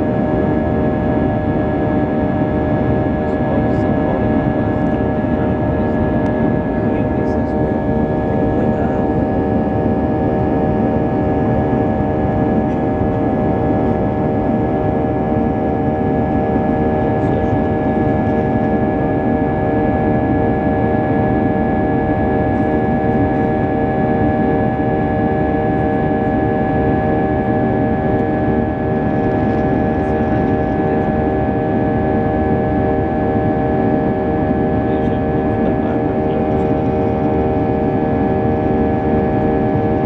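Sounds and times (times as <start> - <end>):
airplane cabin engine drone: 0.0 - 40.0.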